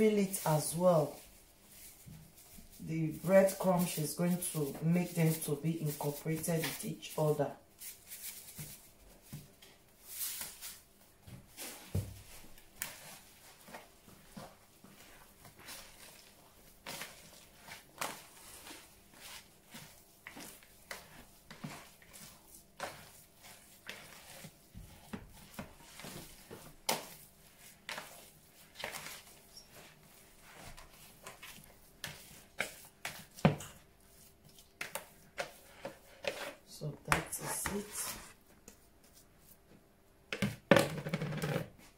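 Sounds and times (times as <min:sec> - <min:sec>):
hands kneading minced meat: 0:00.0 - 0:40.4.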